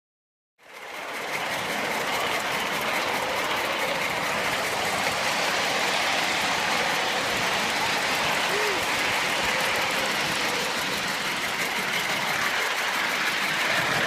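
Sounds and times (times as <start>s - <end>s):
steam locomotive running: 0.6s - 14.0s.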